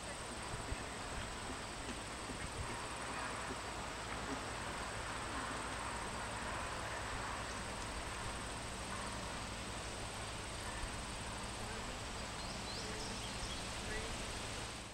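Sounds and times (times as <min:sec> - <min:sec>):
high insect trill: 0:00.0 - 0:14.9
outdoor background noise: 0:00.0 - 0:14.9.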